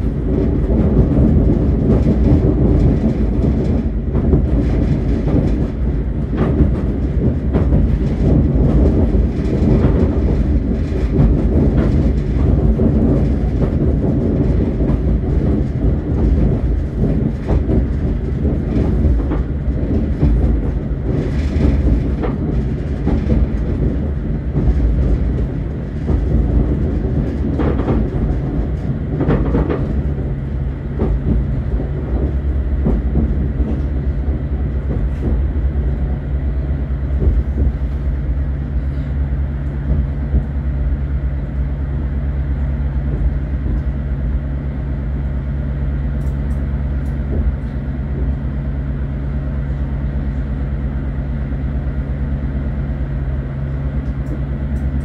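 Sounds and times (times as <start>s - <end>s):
steady low hum: 0.0s - 55.0s
train wheels rumbling on rails: 0.0s - 55.0s.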